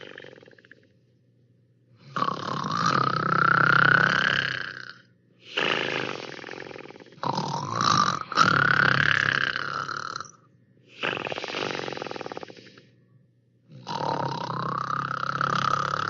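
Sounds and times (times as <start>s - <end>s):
loud rasping snores: 0.0s - 0.9s, 2.0s - 12.9s, 13.7s - 16.0s.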